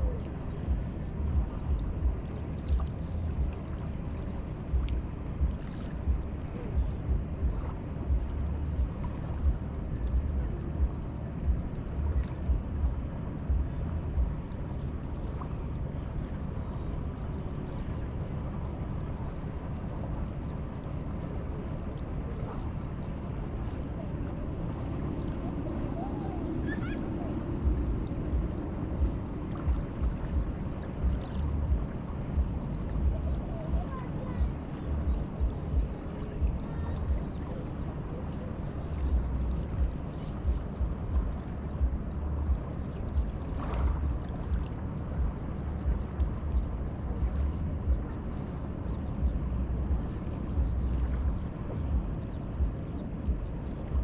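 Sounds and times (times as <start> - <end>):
river water lapping: 0.0 - 54.0
wind buffeting microphone: 0.0 - 54.0.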